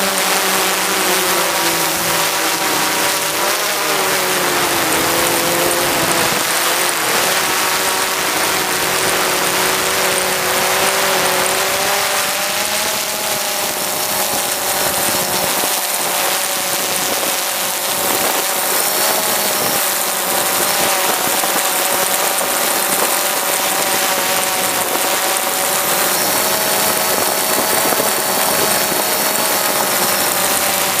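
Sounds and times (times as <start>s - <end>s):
drone propellers buzzing whir: 0.0s - 31.0s.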